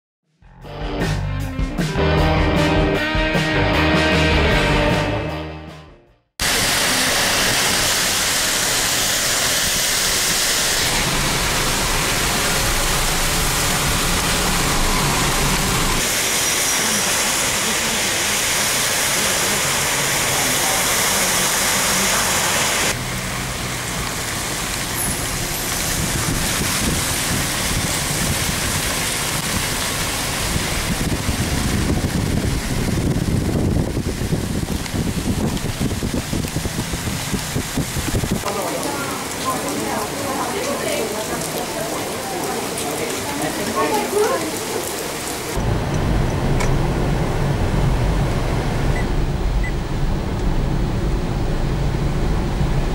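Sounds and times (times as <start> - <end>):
heavy rain on road: 6.4 - 52.9
traffic on wet road: 6.4 - 52.9.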